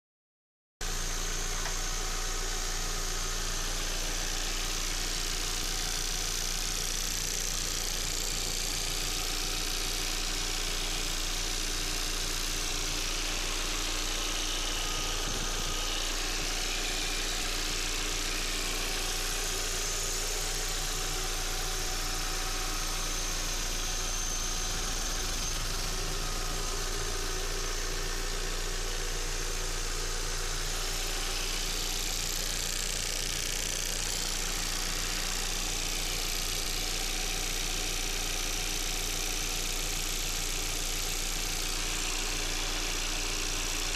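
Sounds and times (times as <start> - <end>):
car engine idling: 1.0 - 37.9
steady engine ticking: 1.4 - 43.9.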